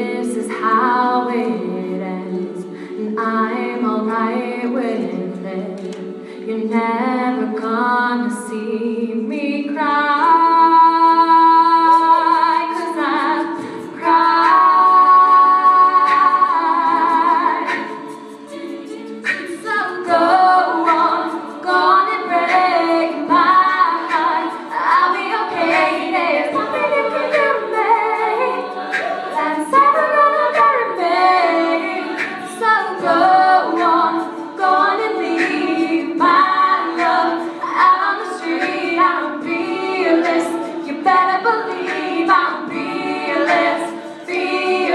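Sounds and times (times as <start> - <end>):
women singing in harmony: 0.0 - 44.9.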